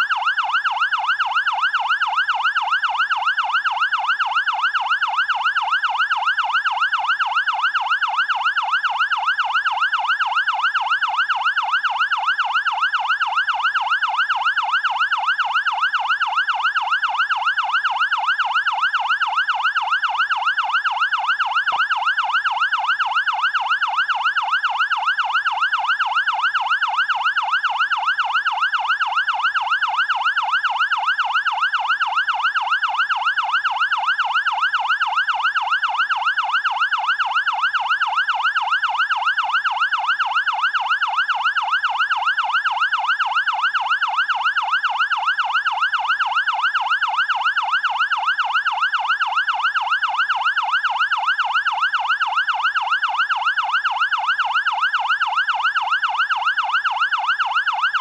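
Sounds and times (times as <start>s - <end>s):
siren yelping: 0.0s - 58.0s.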